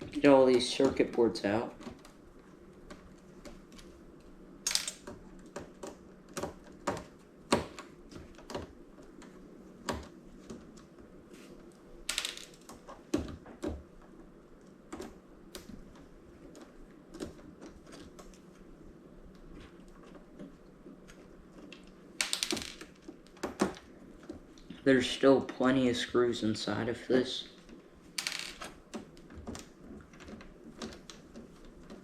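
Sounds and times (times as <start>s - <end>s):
small clicks and knocks of parts: 0.0s - 24.8s, 27.6s - 32.0s.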